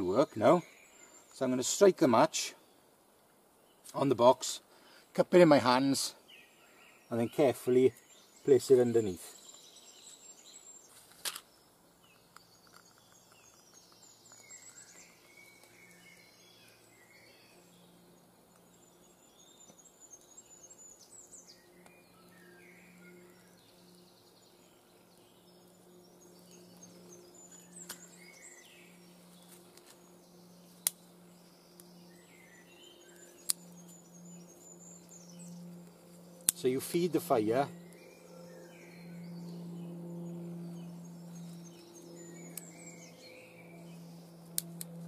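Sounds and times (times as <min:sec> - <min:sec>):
faint birdsong: 0:00.0 - 0:45.0
low steady hum: 0:00.0 - 0:45.0.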